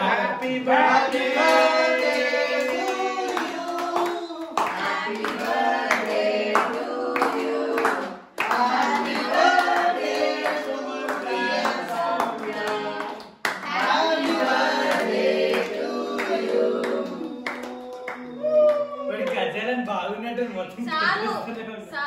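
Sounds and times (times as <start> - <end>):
hand clapping: 1.4 - 19.4.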